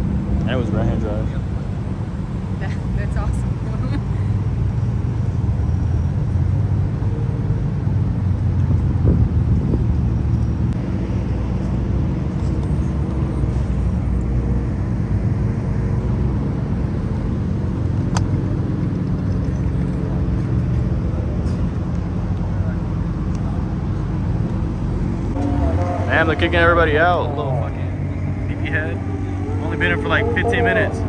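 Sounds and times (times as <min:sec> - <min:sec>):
car engines idling: 0:00.0 - 0:31.0.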